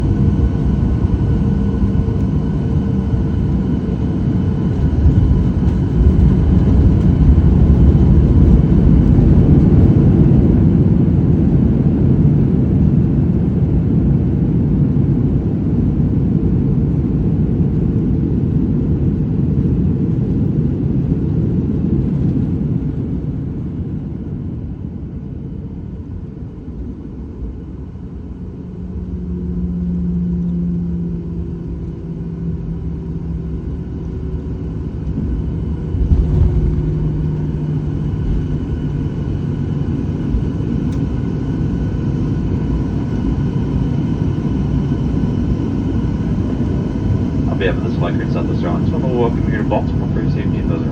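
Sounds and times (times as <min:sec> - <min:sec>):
airplane landing rumble: 0:00.0 - 0:50.9
jet engine whine: 0:00.0 - 0:50.9.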